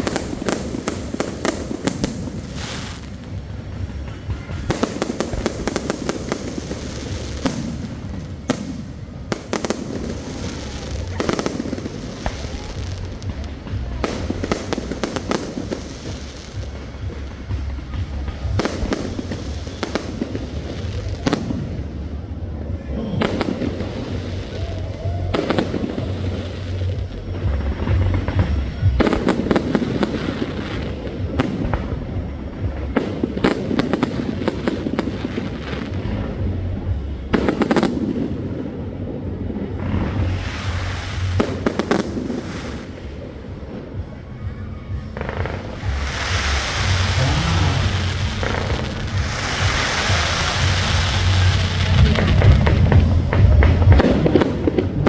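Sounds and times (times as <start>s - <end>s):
continuous low rumble: 0.0s - 55.0s
fireworks bangs and crackling: 0.0s - 55.0s
music playing: 0.0s - 55.0s.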